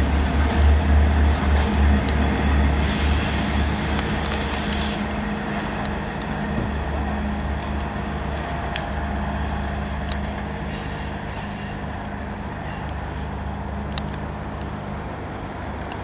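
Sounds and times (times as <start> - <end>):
diesel locomotive engine droning: 0.0 - 16.0.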